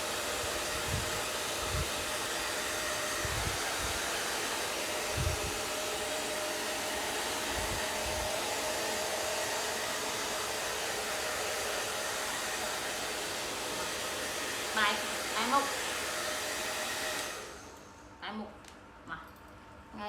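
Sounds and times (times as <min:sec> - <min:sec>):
hair dryer blowing: 0:00.0 - 0:18.2.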